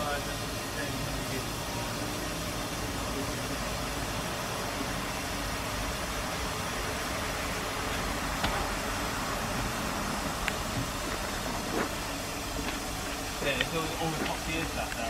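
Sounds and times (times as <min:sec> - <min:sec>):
steam hissing from locomotive: 0:00.0 - 0:15.0.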